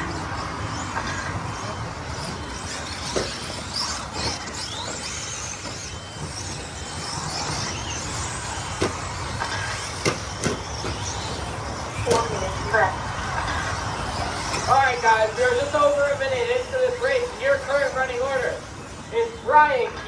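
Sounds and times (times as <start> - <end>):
electric motors whining: 0.0 - 20.0
steady rumble: 0.0 - 20.0.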